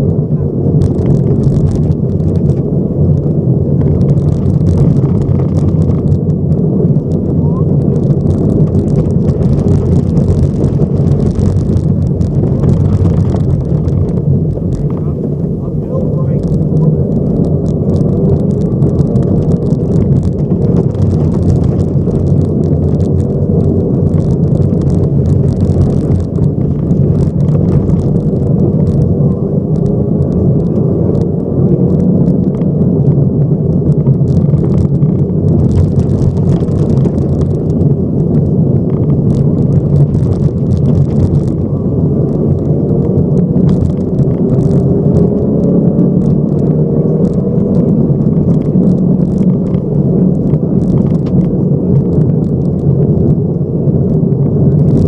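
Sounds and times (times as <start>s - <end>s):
car engine under load: 0.0s - 55.0s
gravel crackling under tyres: 0.0s - 55.0s
road rumble: 0.0s - 55.0s.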